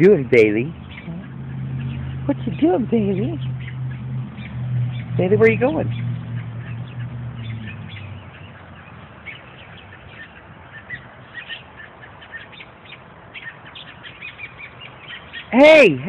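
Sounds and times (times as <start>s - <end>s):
high bird alarm chirps: 0.0s - 15.9s.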